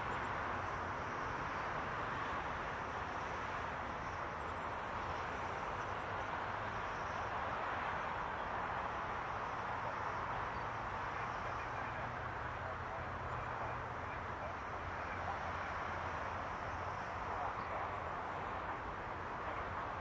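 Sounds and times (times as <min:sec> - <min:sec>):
distant jet roar: 0:00.0 - 0:20.0.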